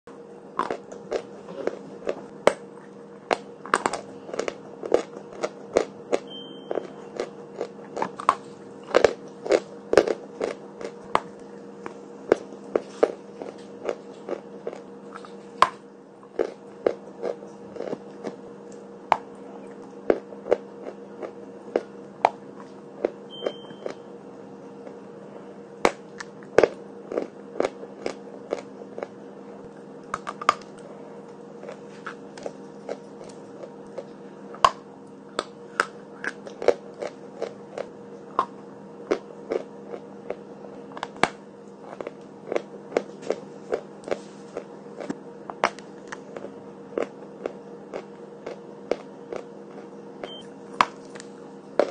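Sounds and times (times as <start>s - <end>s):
chalk crunching as it is chewed: 0.6s - 18.8s, 19.6s - 24.0s, 25.9s - 51.9s.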